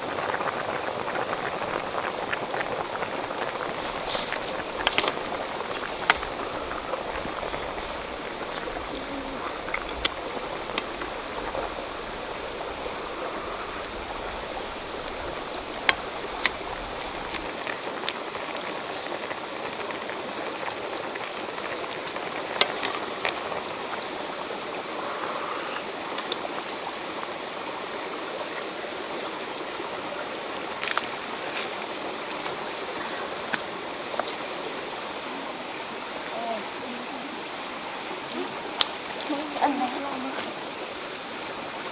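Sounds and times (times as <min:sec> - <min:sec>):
soup bubbling in pot: 0:00.0 - 0:36.2
stream rushing over rocks: 0:00.0 - 0:41.9.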